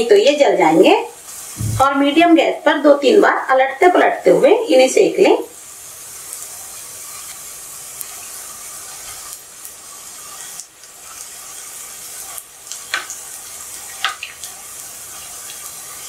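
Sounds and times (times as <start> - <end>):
oil sizzling in frying pan: 0.0 - 16.0.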